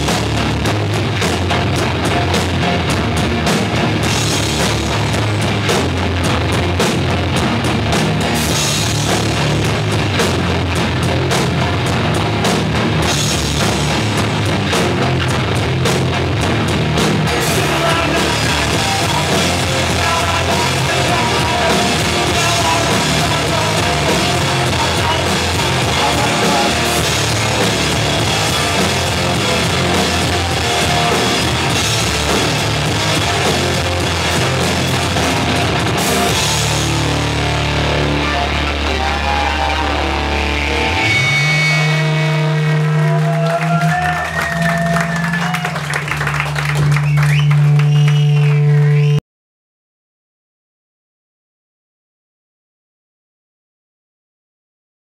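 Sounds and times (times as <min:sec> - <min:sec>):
live rock band playing loudly: 0:00.0 - 0:48.8
held guitar and bass chords: 0:00.0 - 0:49.2.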